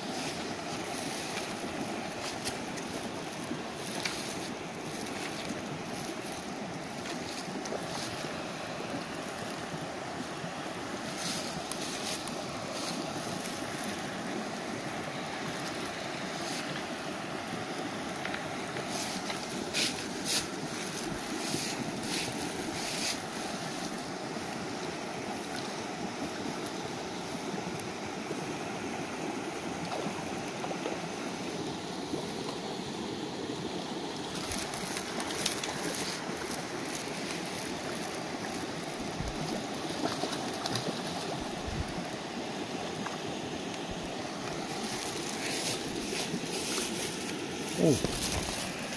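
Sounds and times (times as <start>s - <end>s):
stream running over rocks: 0.0s - 48.9s.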